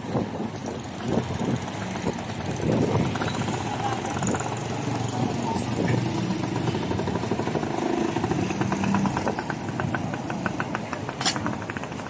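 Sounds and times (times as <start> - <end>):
motorcycle engines passing: 0.0 - 12.0
street traffic: 0.0 - 12.0.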